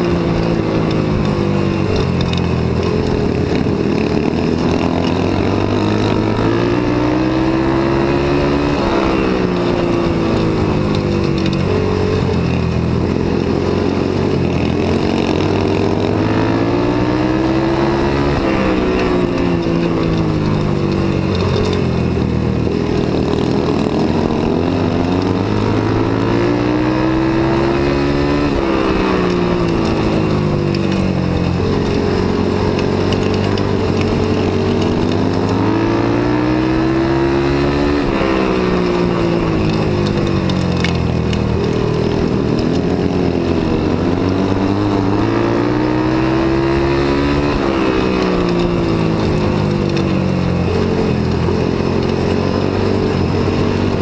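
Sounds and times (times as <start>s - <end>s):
motorcycle engine revving hard: 0.0s - 54.0s.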